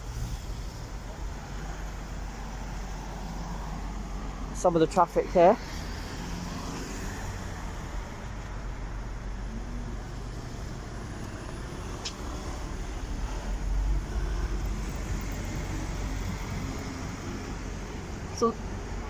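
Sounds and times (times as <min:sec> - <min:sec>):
road traffic rumble: 0:00.0 - 0:19.0
louder vehicle passing: 0:01.4 - 0:19.0.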